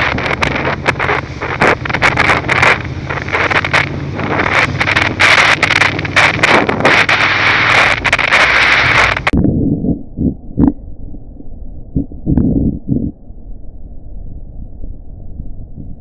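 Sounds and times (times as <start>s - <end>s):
wind buffeting microphone: 0.0s - 13.2s, 14.2s - 16.0s
motorcycle engine hum: 0.0s - 16.0s.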